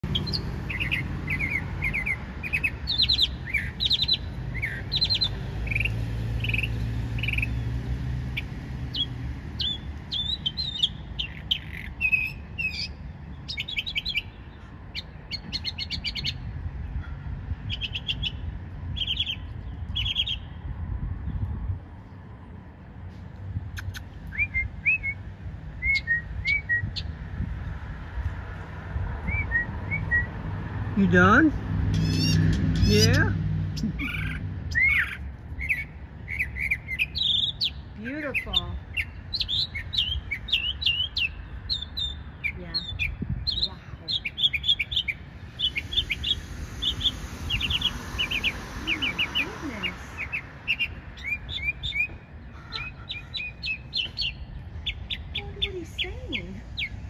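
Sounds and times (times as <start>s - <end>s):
mockingbird singing: 0.0s - 20.6s, 23.8s - 25.2s, 25.8s - 27.2s, 31.0s - 57.0s.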